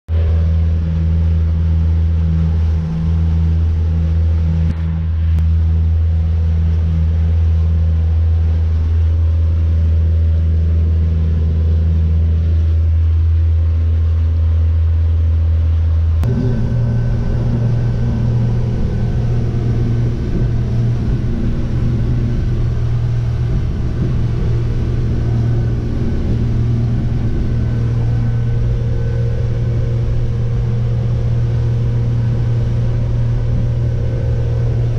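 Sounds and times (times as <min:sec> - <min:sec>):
motorboat engine droning: 0:00.1 - 0:34.9.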